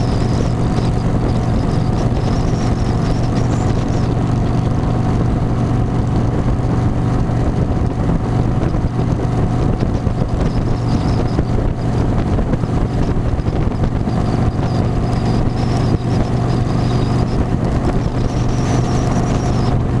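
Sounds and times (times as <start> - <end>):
motorcycle engine cruising: 0.0 - 20.0
wind noise on microphone: 0.0 - 20.0.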